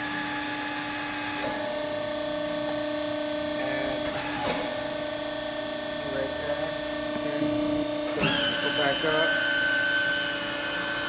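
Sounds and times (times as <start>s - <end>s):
hydraulic pump whining: 0.0s - 11.0s.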